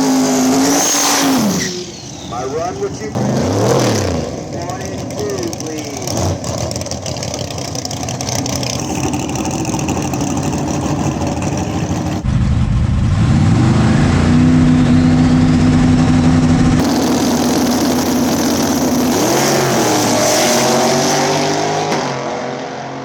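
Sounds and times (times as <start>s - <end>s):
race car engine accelerating: 0.0s - 23.0s.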